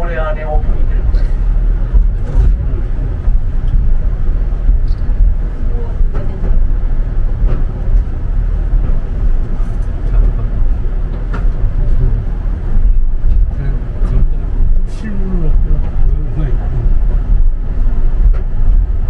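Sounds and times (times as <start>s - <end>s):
monorail car rumbling: 0.0s - 19.0s.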